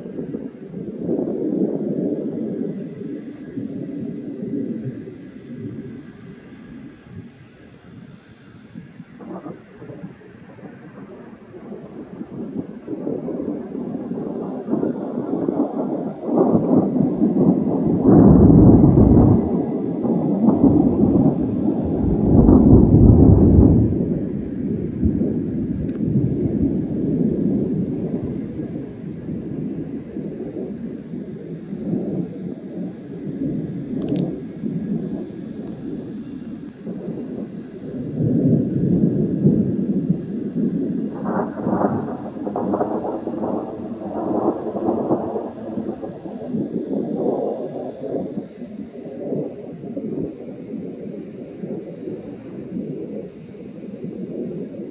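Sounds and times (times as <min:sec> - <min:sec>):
thunder rumbling: 0:00.0 - 0:54.9.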